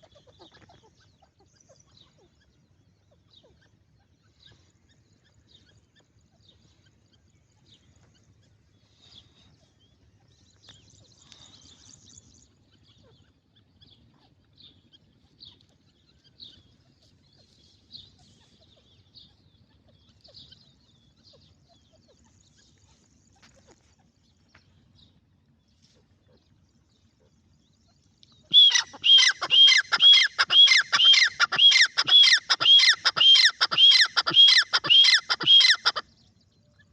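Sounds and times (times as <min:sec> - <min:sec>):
faint birds chirping: 0:00.0 - 0:36.9
low background rumble: 0:00.0 - 0:36.9.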